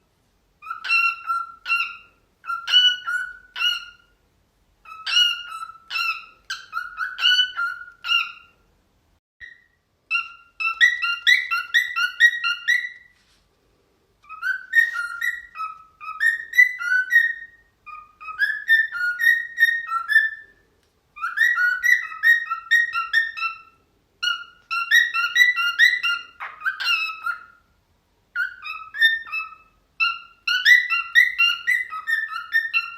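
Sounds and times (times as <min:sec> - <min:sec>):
cockatiel whistling: 0:00.6 - 0:04.2, 0:04.8 - 0:08.6, 0:09.4 - 0:13.2, 0:14.2 - 0:27.7, 0:28.3 - 0:32.9.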